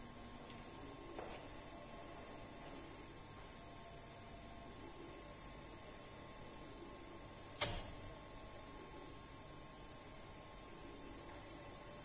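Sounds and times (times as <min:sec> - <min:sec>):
faint hiss and hum: 0:00.0 - 0:12.0.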